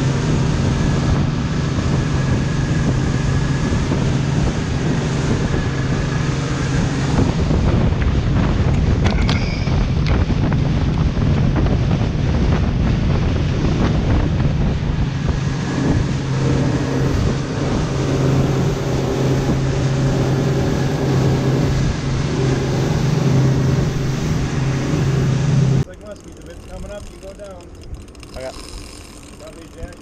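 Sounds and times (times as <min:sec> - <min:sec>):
wind buffeting microphone: 0:00.0 - 0:25.9
boat engine low hum: 0:00.0 - 0:30.0.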